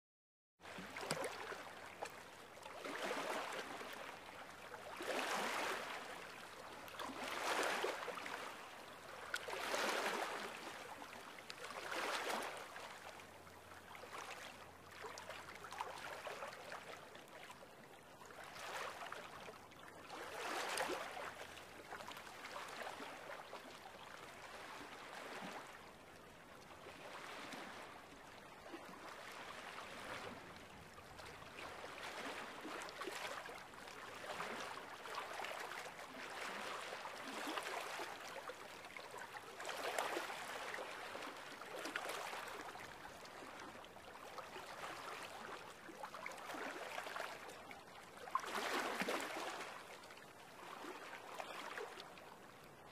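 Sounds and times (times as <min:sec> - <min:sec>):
small waves lapping: 0:00.6 - 0:52.9.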